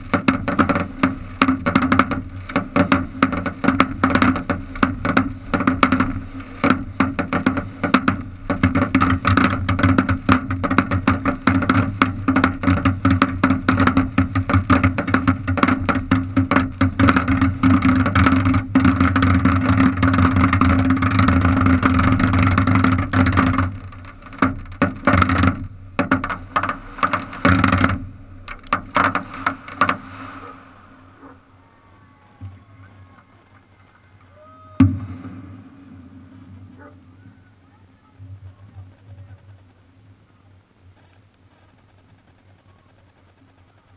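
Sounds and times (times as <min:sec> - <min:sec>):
firework fountain crackling: 0:00.0 - 0:43.9
steady rushing of firework: 0:00.0 - 0:43.9.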